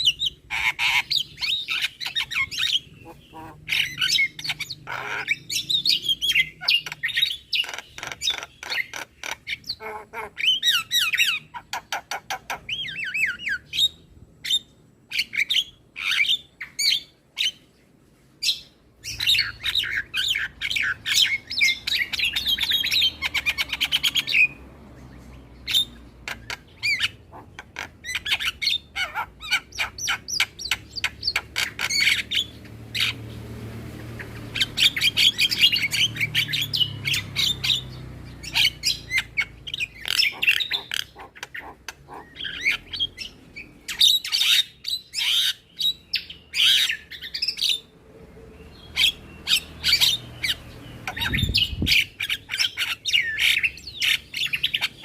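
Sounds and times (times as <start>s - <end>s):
myna chirping and squawking: 0.0s - 17.7s, 18.4s - 47.9s, 48.6s - 55.0s.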